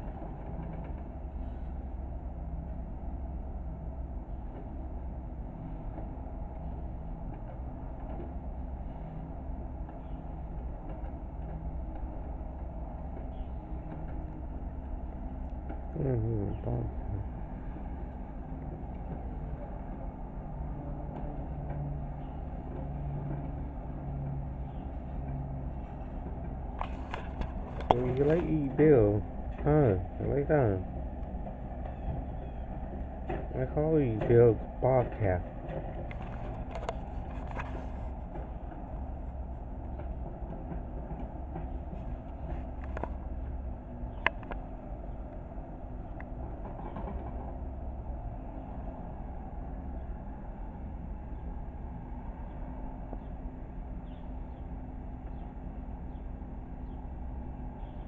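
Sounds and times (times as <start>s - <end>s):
loader engine running: 0.0s - 58.0s.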